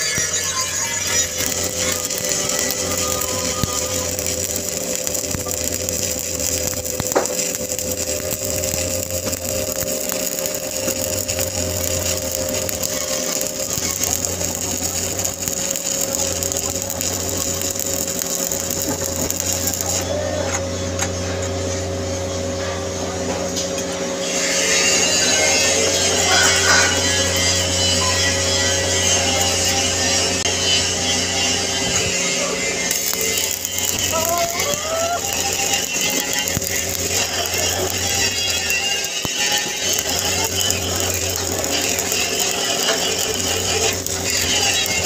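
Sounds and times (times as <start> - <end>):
constant low hum: 0.0 - 45.0
welding arc crackling hiss: 0.0 - 45.0.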